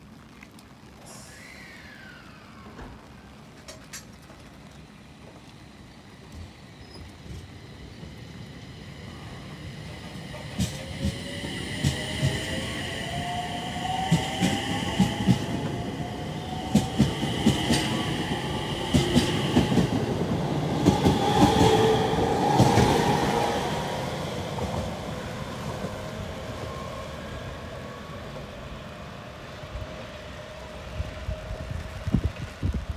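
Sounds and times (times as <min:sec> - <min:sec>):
electric train motor whine: 0:01.3 - 0:27.7.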